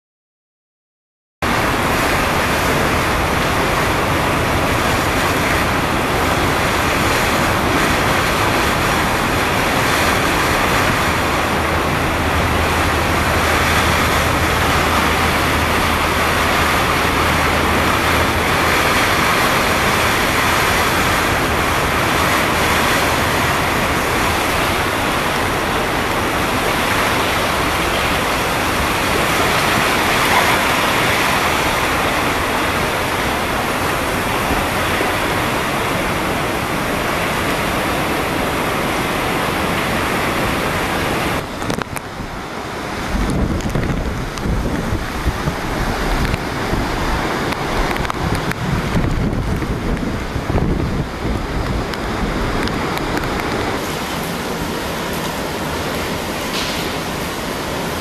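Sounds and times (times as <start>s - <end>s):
hurricane wind: 1.4s - 58.0s
water rushing: 1.4s - 58.0s.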